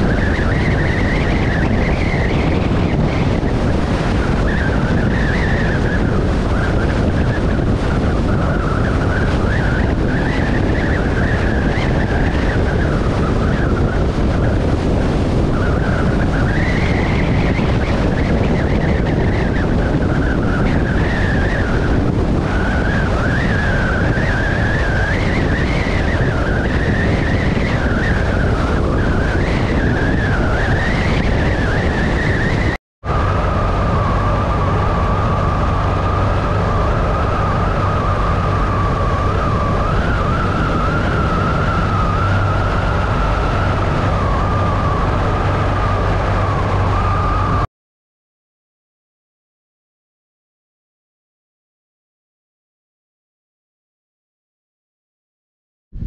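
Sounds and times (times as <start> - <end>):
wind and road noise: 0.0 - 47.7.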